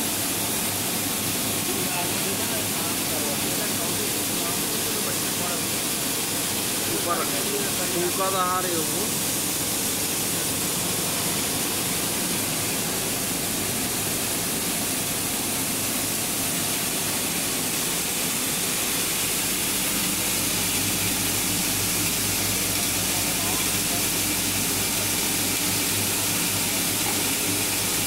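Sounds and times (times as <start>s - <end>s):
grinding mill rushing noise: 0.0s - 28.0s.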